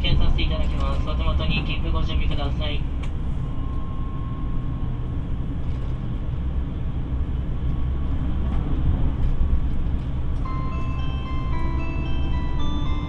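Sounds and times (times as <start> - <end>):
train running low rumble: 0.0 - 13.0.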